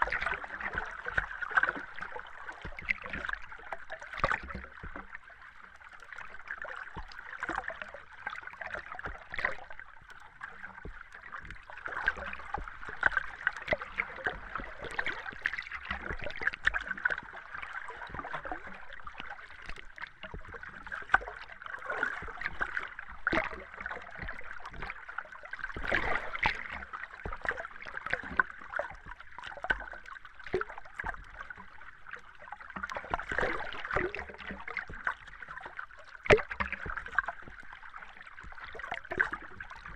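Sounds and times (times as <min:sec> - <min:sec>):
underwater bubbles: 0:00.0 - 0:39.9.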